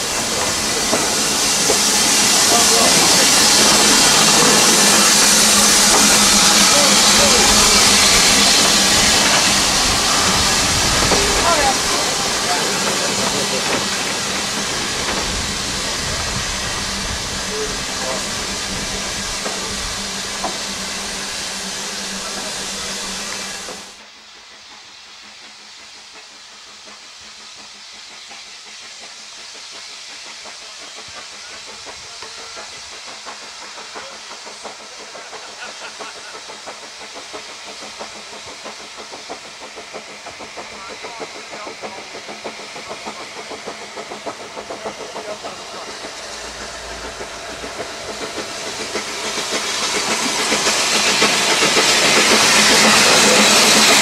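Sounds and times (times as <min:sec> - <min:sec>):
steam locomotive exhaust beats: 0:00.0 - 0:54.0
train rolling past: 0:00.0 - 0:54.0.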